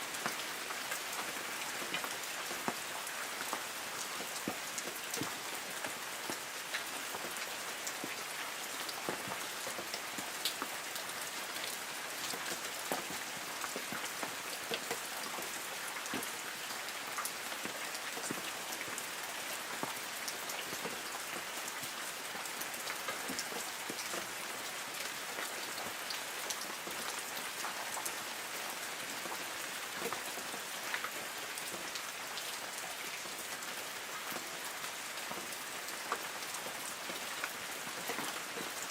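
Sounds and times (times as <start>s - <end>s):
light rain hissing on trees: 0.0s - 38.9s
raindrops ticking on leaves: 0.0s - 38.9s.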